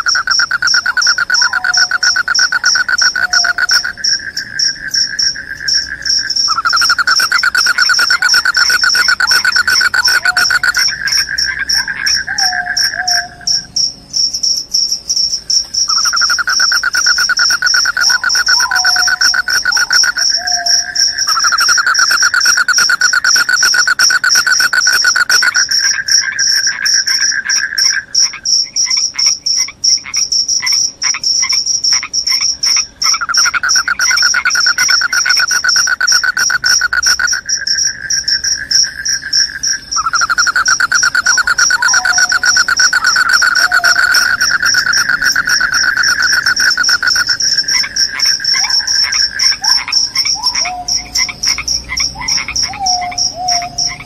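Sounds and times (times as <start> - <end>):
high-pitched cricket trill: 0.0 - 54.0
lower-pitched cricket trill: 0.0 - 54.0.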